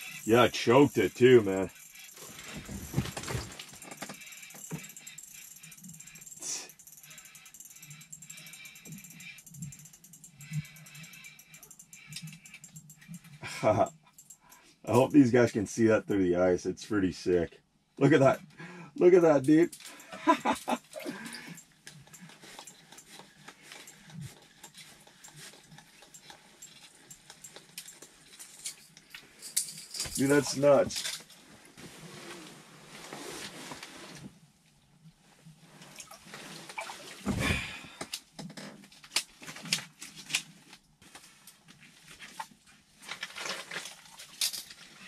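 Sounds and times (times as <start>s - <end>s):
fishing gear clicks and rustles: 0.0s - 15.8s, 18.2s - 34.5s, 35.4s - 45.0s.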